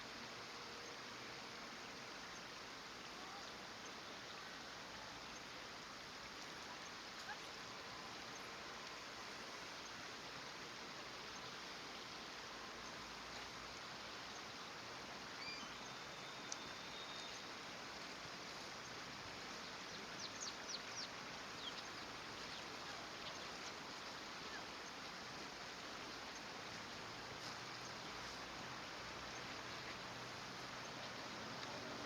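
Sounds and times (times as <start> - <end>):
steady background hiss: 0.0 - 32.0.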